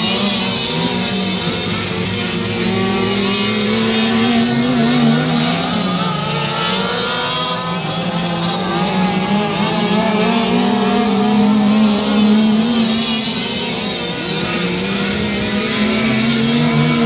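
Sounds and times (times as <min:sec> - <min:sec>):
race car engine at speed: 0:00.0 - 0:17.0.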